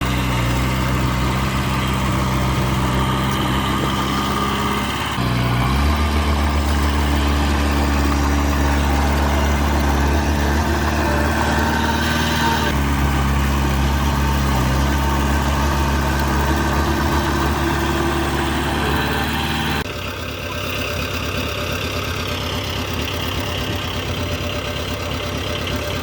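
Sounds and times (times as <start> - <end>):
bulldozer diesel engine: 0.0 - 26.0.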